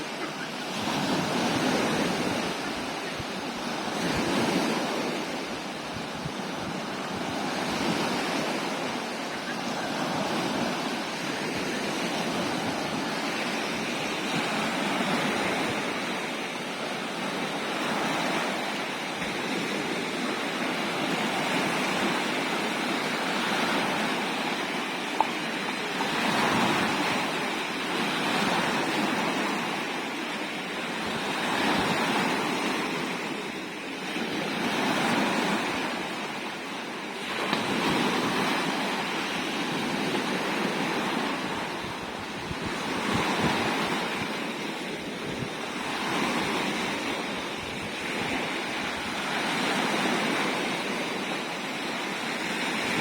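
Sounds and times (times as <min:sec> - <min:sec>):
sea waves washing onto shore: 0:00.0 - 0:53.0.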